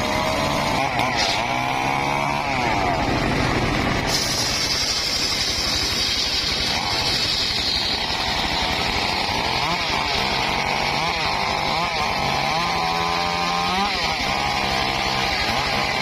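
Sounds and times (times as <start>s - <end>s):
engine-driven circular saw cutting wood: 0.0s - 16.0s.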